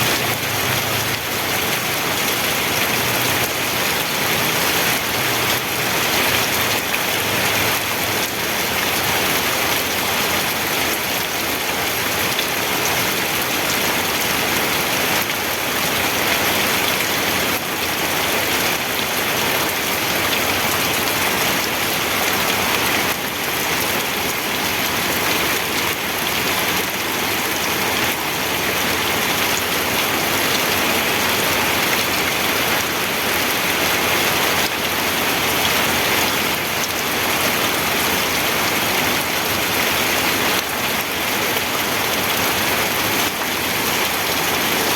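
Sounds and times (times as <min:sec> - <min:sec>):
rain pattering on a surface: 0:00.0 - 0:44.9.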